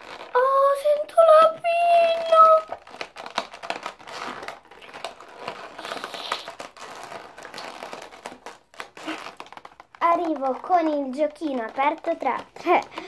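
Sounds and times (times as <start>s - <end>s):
plastic pouch crinkling: 0.0s - 13.0s.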